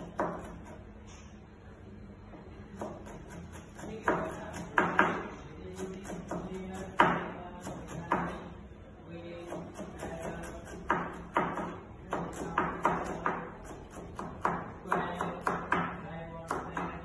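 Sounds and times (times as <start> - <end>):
knife chopping on plastic board: 0.0 - 0.8, 2.7 - 8.5, 9.4 - 17.0.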